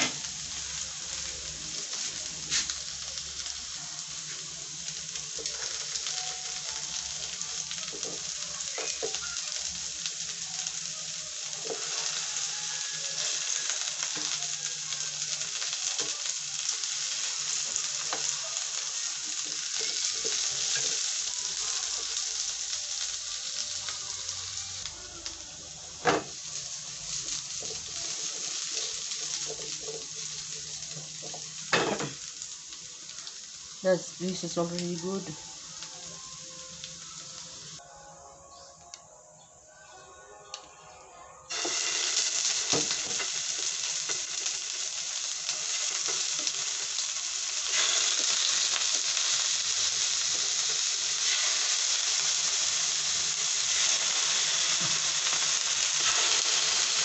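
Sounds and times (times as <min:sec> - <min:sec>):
vegetables sizzling in oil: 0:00.0 - 0:37.8, 0:41.5 - 0:57.0.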